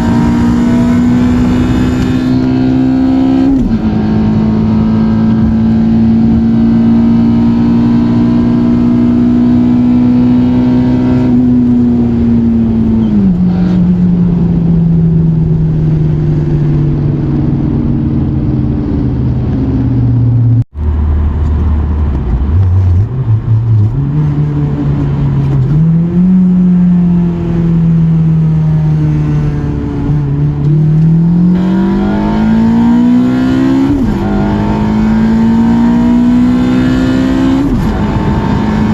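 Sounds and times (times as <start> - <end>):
car engine revving under load: 0.0 - 38.9.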